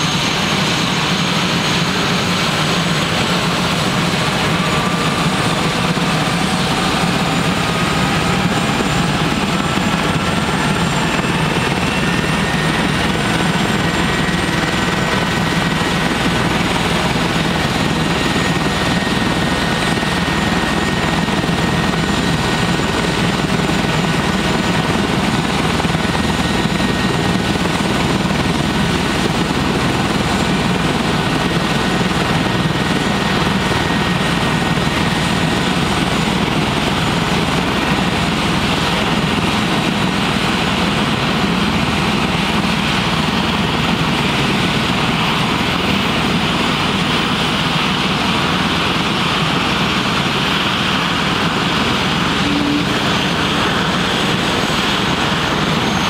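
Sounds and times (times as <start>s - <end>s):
helicopter rotor beat: 0.0s - 56.0s
helicopter turbine whine: 0.0s - 56.0s.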